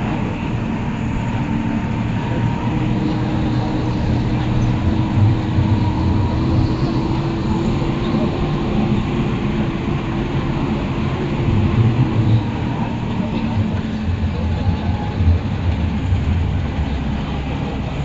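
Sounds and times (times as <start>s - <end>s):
bus engine drone: 0.0s - 18.0s
bus jolts: 0.0s - 18.0s
faint constant whine: 0.0s - 18.0s.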